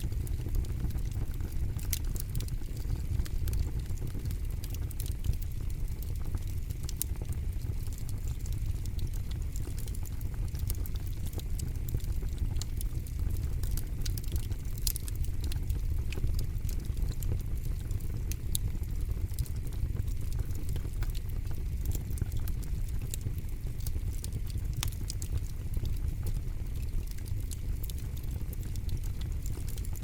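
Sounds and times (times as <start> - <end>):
campfire crackling and snapping: 0.0 - 30.0.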